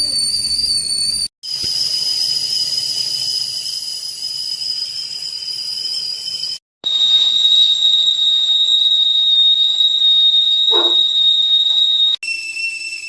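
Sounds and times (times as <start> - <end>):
kettle whistling: 0.0 - 13.0
steam hissing: 1.4 - 13.0.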